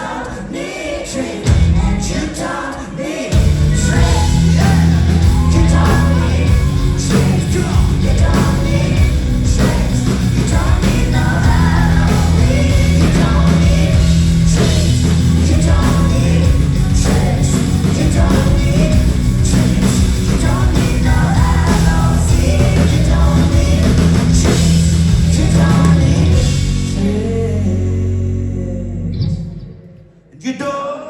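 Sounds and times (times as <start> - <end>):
drums: 0.0 - 29.9
person singing: 0.0 - 31.0
rock band playing live: 1.4 - 2.4, 3.4 - 28.5
guitars: 3.3 - 30.0.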